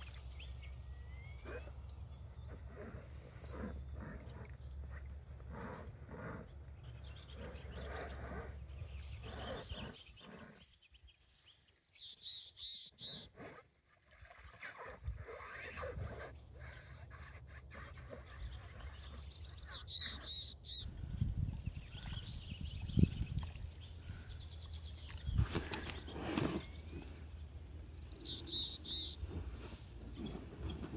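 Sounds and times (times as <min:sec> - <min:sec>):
bird chirping: 0:00.1 - 0:13.4, 0:18.3 - 0:30.9.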